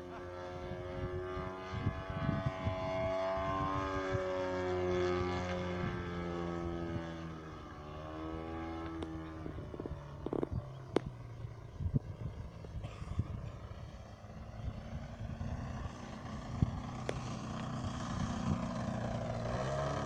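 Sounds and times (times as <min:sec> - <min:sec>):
model plane engine: 0:00.0 - 0:20.0.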